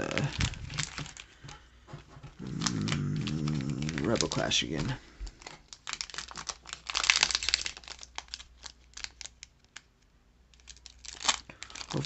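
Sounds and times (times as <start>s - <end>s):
foil wrapper crinkling: 0.0s - 9.9s, 10.5s - 12.0s.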